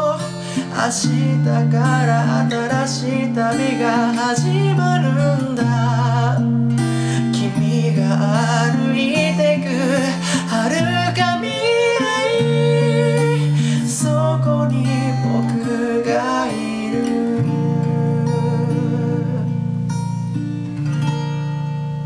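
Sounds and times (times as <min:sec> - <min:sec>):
men singing: 0:00.0 - 0:19.5
acoustic guitar strumming: 0:00.0 - 0:22.0.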